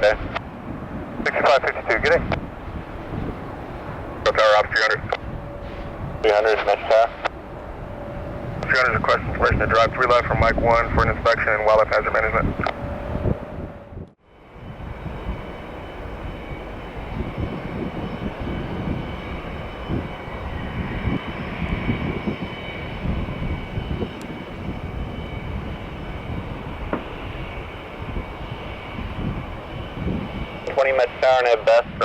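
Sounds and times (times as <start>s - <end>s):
jet engines rumbling: 0.0s - 32.0s
faint high whine: 1.2s - 32.0s.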